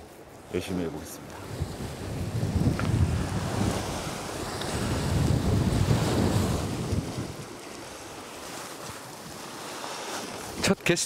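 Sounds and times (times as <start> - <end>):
wind buffeting microphone: 0.0 - 10.7
sea washing against rocks: 0.0 - 11.0.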